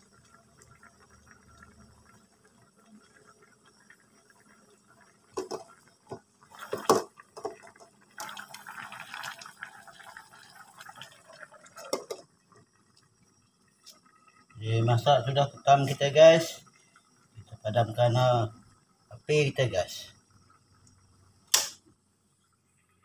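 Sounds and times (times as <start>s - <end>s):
sauce bubbling: 0.0s - 21.5s.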